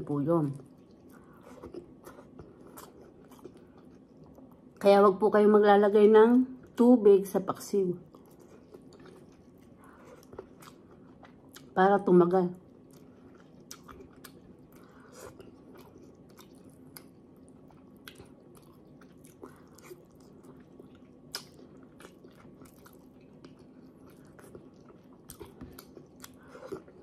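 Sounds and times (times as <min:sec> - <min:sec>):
faint steady hum: 0:00.0 - 0:27.0
faint chewing: 0:00.6 - 0:04.8, 0:08.0 - 0:11.8, 0:12.6 - 0:27.0.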